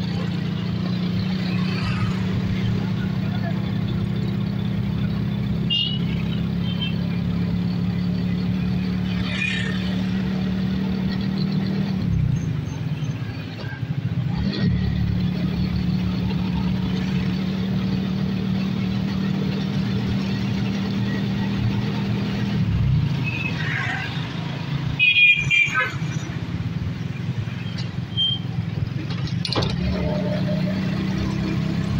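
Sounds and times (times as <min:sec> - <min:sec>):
vehicle engine hum: 0:00.0 - 0:31.9.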